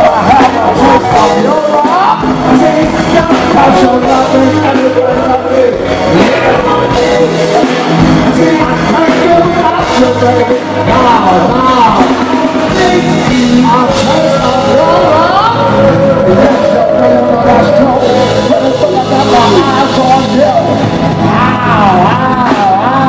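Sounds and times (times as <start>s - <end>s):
woman singing: 0.0s - 20.5s, 21.3s - 23.0s
live band playing: 0.0s - 23.0s
man singing: 0.0s - 23.0s.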